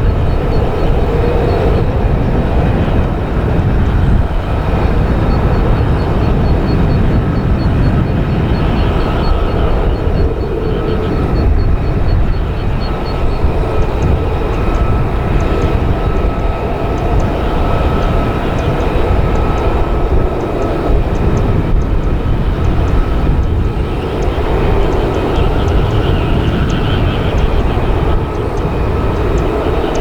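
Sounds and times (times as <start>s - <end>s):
jet engine rumble: 0.0s - 30.0s.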